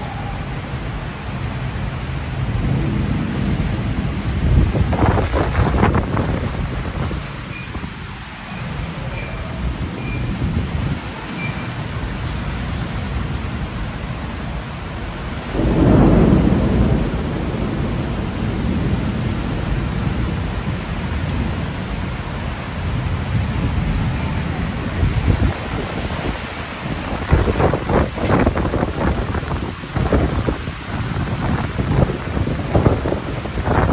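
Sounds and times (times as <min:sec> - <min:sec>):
heavy rain falling: 0:00.0 - 0:33.9
thunder rumbling: 0:00.0 - 0:33.9.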